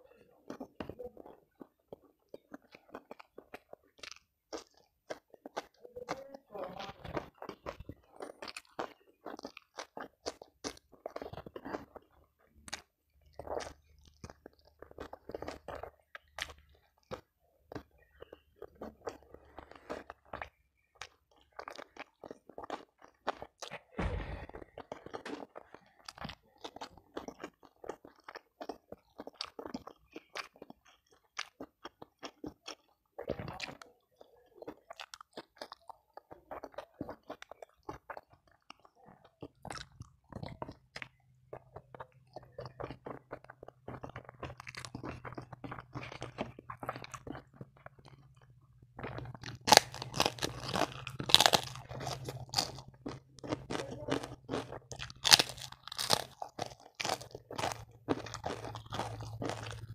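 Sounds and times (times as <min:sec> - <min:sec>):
close chewing with crunches: 0:00.0 - 0:59.9
loud cracker crunching: 0:00.1 - 0:59.9.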